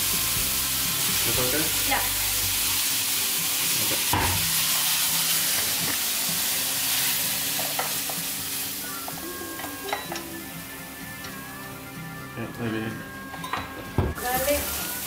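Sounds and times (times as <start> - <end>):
garlic sizzling in oil: 0.0 - 11.8, 14.2 - 15.0.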